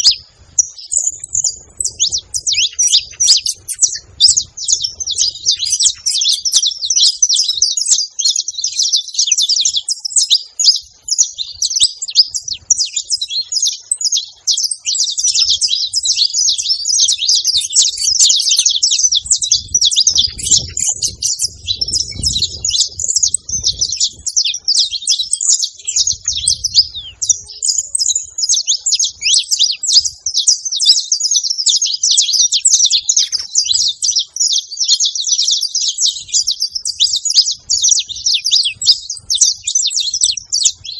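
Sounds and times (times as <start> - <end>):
finch chirping and singing: 0.0 - 40.9.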